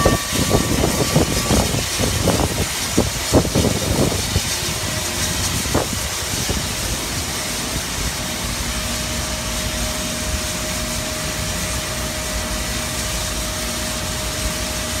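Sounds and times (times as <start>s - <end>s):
steady whine: 0.0s - 15.0s
steam locomotive hissing: 0.0s - 15.0s.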